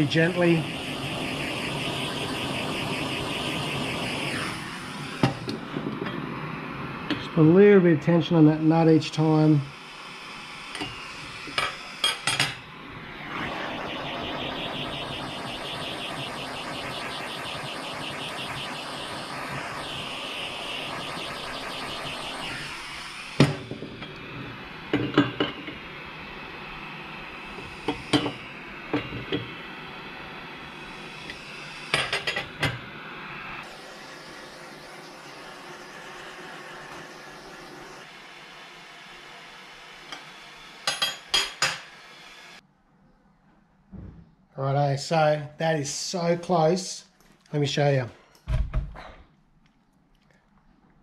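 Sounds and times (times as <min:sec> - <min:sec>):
gas torch hissing: 0:00.0 - 0:42.6.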